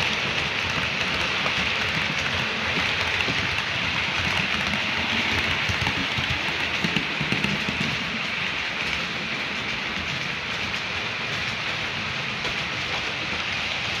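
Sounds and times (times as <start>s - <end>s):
wheels clicking over rail joints: 0.0s - 14.0s.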